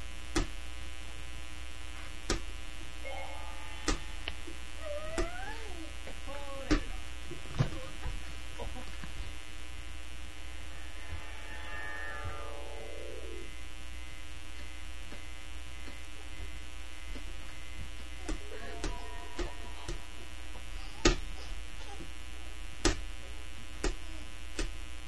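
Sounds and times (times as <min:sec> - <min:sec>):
electrical hum and buzz: 0:00.0 - 0:25.0.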